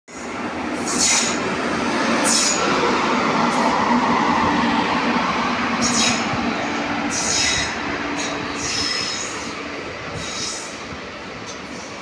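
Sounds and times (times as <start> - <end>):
train wheels rushing on rail: 0.1 - 12.0.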